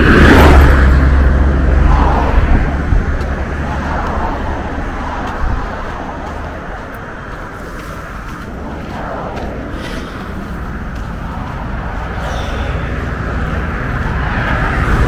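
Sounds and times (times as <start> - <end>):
truck passing by: 0.0 - 15.0.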